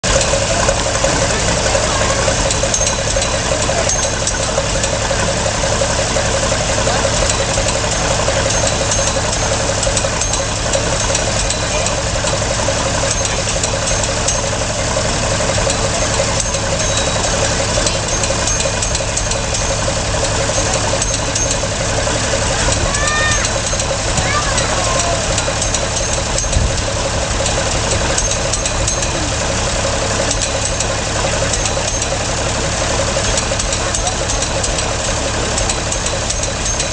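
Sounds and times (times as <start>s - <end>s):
sawmill engine running: 0.0s - 36.9s.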